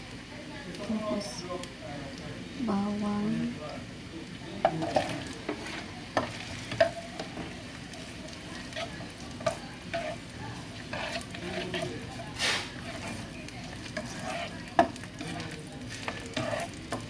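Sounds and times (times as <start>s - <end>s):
oil sizzling in a pan: 0.0s - 17.0s.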